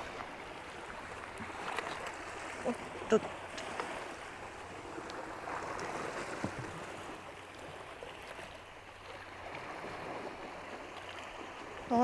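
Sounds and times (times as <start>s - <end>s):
sea water washing and sloshing: 0.0s - 12.0s.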